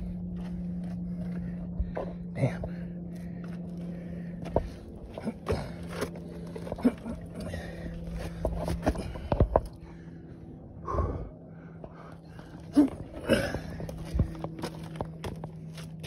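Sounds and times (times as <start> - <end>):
heavy breathing: 0.0 - 15.1
footsteps on rock: 0.2 - 9.8, 12.3 - 16.0.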